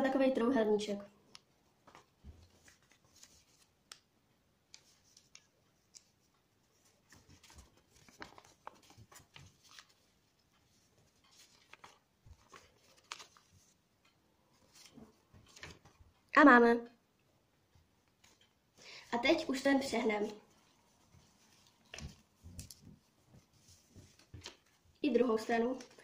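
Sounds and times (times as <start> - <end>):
paper rustling and creasing: 1.7 - 4.1, 4.7 - 16.3, 18.0 - 18.6, 19.4 - 26.0.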